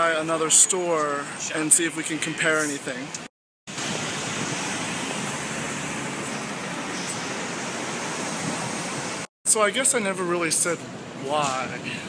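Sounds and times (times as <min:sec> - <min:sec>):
city traffic rush: 0:00.0 - 0:12.0.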